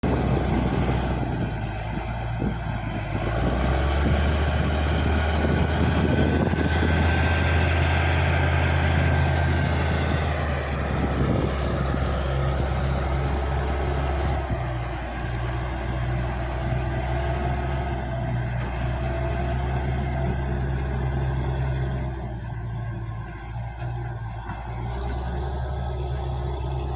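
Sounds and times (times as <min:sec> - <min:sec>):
bulldozer diesel engine under load: 0:00.0 - 0:26.9.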